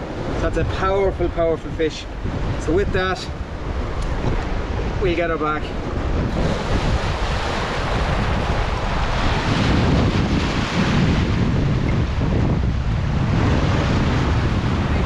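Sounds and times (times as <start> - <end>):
wind buffeting microphone: 0.0 - 15.0
sea waves breaking on rocks: 2.2 - 15.0.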